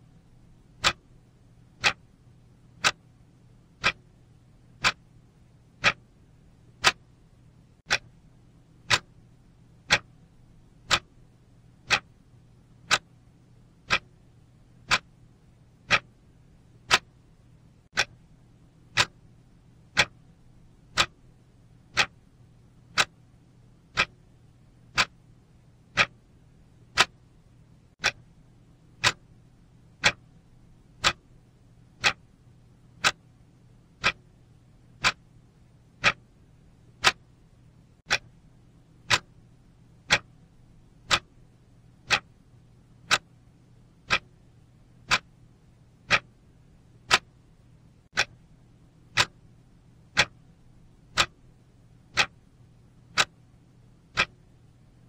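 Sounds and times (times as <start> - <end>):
clock ticking: 0.6 - 14.2, 14.8 - 43.4, 44.0 - 54.6.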